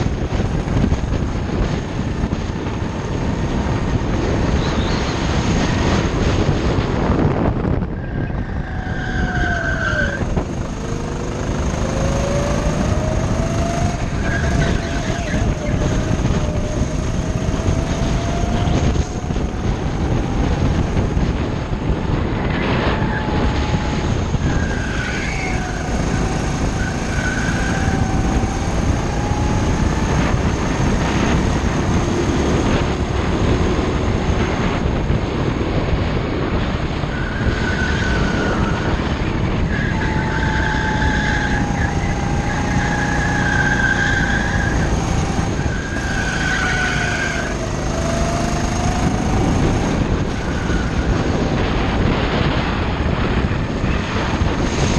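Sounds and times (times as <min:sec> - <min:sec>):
go-kart engine revving: 0:08.3 - 0:54.9.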